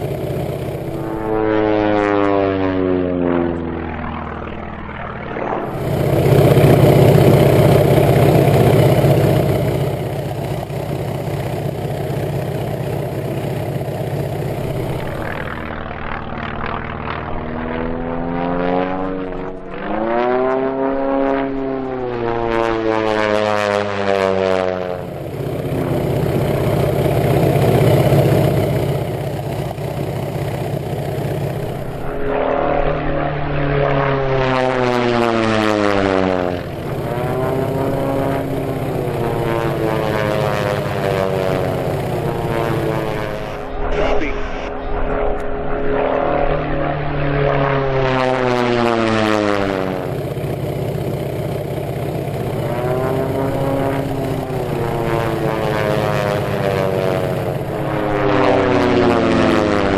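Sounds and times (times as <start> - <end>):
model plane propeller buzz: 0.0 - 59.9.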